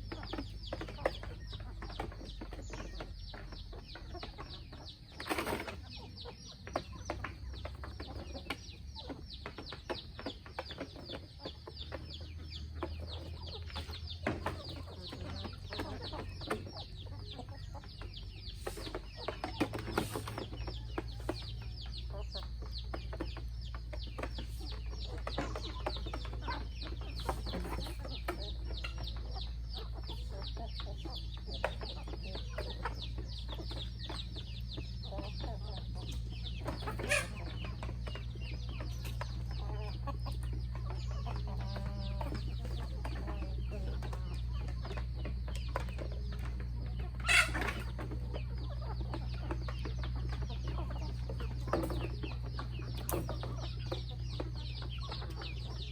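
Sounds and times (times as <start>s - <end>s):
chickens clucking: 0.0s - 55.9s
high falling chick peeps: 0.0s - 55.9s.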